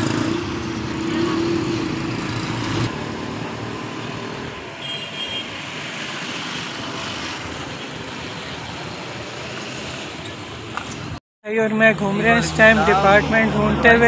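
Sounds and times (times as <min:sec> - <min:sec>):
road traffic rushing: 0:00.0 - 0:14.0.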